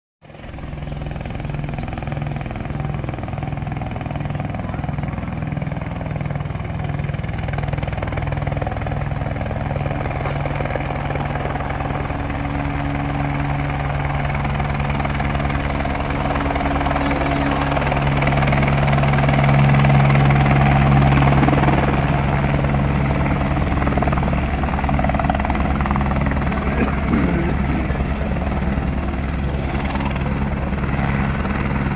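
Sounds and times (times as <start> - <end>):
helicopter rotor beat: 0.2 - 31.9.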